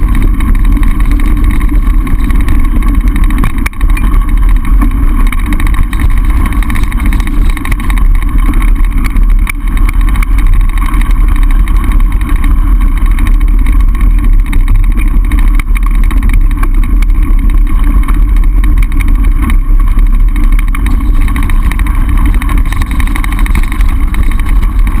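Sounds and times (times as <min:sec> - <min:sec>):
bike clicks and rattles: 0:00.0 - 0:25.0
wind buffeting microphone: 0:00.0 - 0:25.0.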